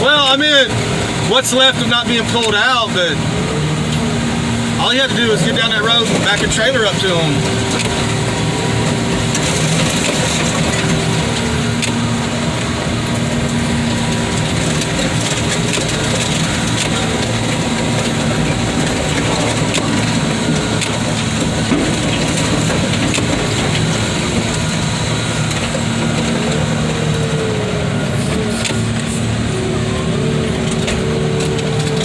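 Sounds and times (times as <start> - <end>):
car body crunching and cracking: 0.0 - 32.0
heavy machine engine running: 0.0 - 32.0.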